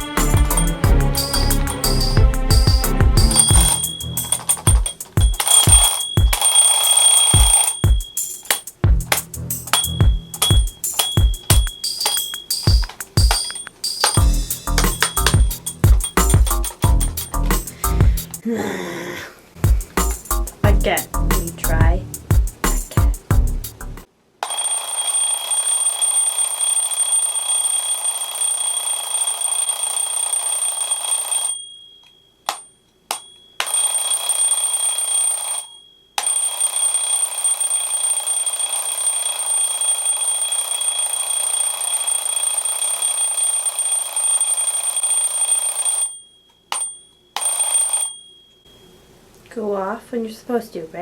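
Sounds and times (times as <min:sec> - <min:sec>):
alarm clock ringing: 0:00.0 - 0:17.5, 0:24.4 - 0:48.9.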